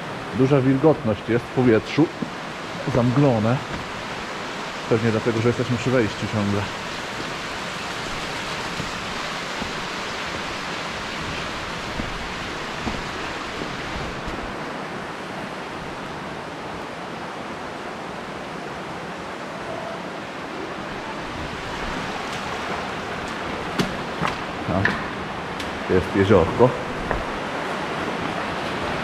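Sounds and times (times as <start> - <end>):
underground river rushing: 0.0 - 29.0.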